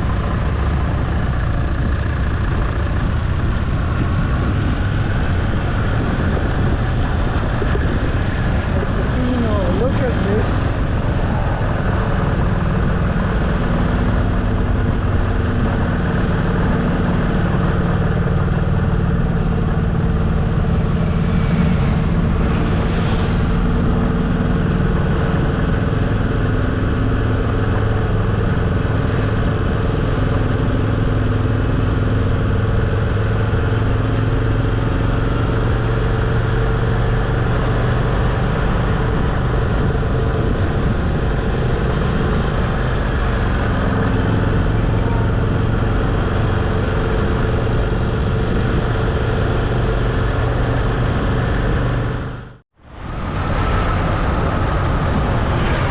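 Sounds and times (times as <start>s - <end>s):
motorcycle engine cruising: 0.0s - 55.9s
road and wind noise: 0.0s - 55.9s.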